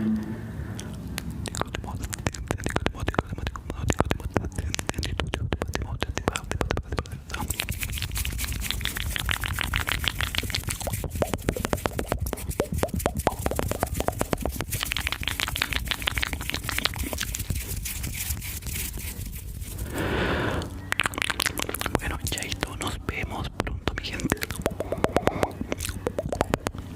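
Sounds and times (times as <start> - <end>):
wet mouth clicks and smacks: 0.8 - 19.4, 20.9 - 26.9.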